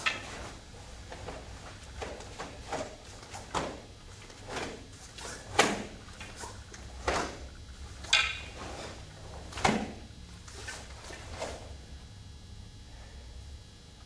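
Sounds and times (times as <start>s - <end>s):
staff swishing through air: 0.0s - 11.8s.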